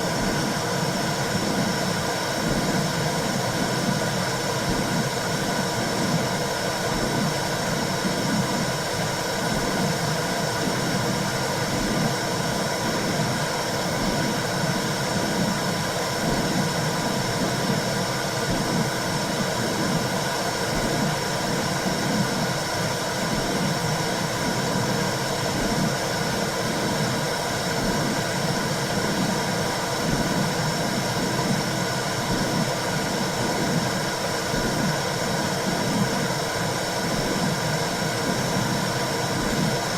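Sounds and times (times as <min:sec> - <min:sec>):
low regular pulsing: 0:00.0 - 0:39.9.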